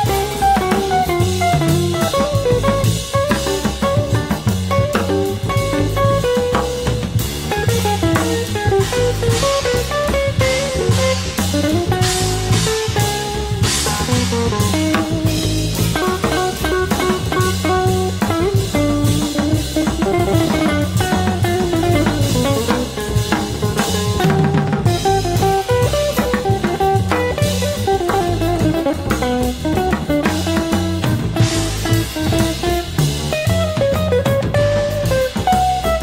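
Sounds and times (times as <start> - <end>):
drum kit with cymbals: 0.0 - 36.0
jazz guitar single-note lines: 0.0 - 36.0
plucked double bass: 0.0 - 36.0.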